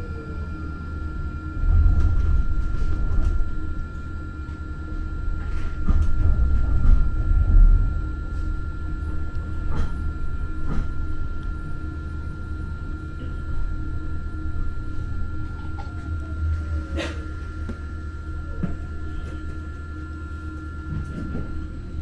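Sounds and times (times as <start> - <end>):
light-rail car rumble and whine: 0.0 - 22.0.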